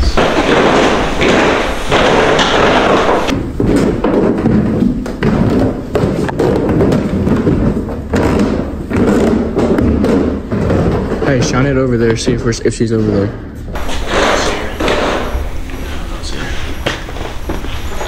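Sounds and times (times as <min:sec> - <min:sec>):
footsteps on wooden stairs: 0:00.0 - 0:11.6, 0:13.7 - 0:18.0.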